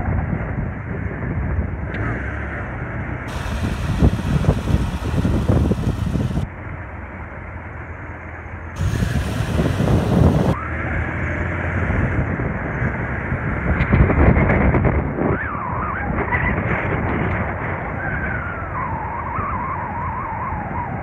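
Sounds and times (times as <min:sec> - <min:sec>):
wind buffeting microphone: 0:00.0 - 0:02.2, 0:02.9 - 0:06.5, 0:08.8 - 0:21.0
road and engine rumble: 0:00.0 - 0:21.0.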